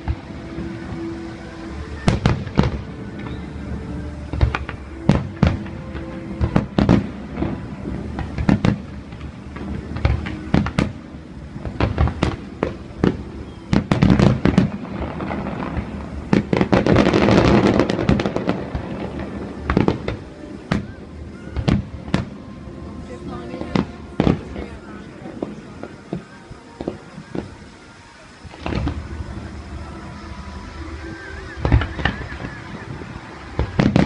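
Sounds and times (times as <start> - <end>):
fireworks bursting with bangs: 0.0 - 34.0
fireworks crackling: 0.0 - 34.0.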